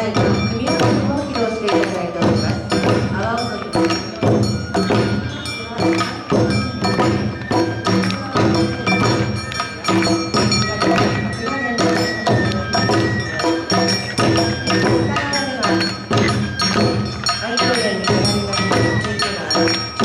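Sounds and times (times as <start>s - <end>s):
shamisen: 0.0s - 20.0s
taiko drums: 0.0s - 20.0s
flutes playing melody: 3.6s - 20.0s.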